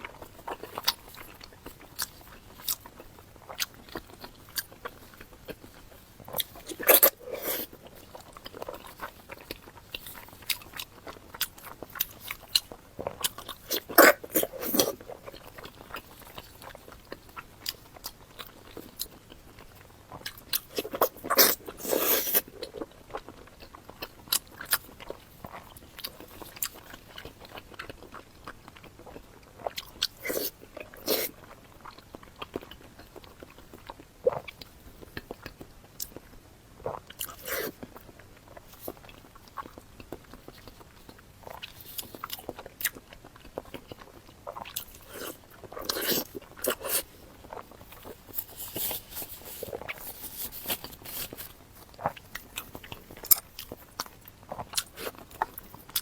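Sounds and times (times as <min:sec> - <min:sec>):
person biting and chewing food: 0:00.0 - 0:28.2, 0:29.0 - 0:32.0, 0:38.7 - 0:56.0.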